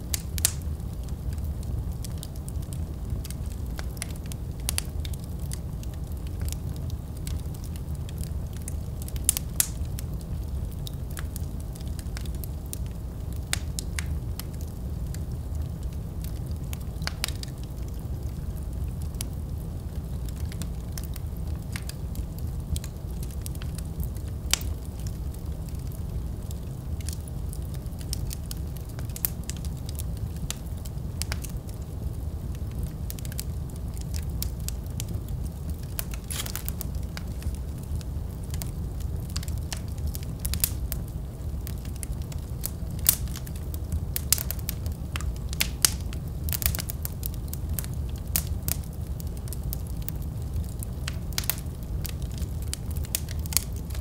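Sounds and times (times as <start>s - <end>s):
burning logs crackling and popping: 0.0s - 54.0s
low rumble of flames: 0.0s - 54.0s.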